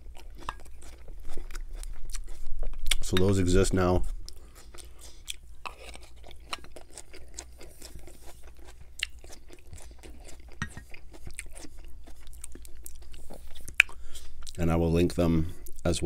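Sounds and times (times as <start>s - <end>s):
chewing crunchy salad: 0.0s - 14.8s.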